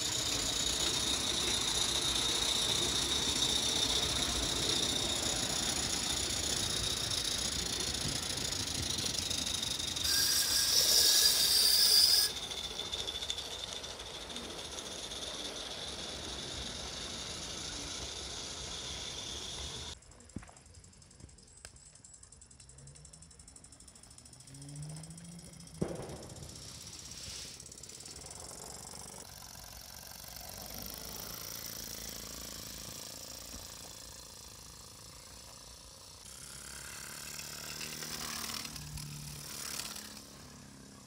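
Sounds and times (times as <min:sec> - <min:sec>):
model locomotive steam hiss: 0:00.0 - 0:20.0, 0:23.6 - 0:41.0.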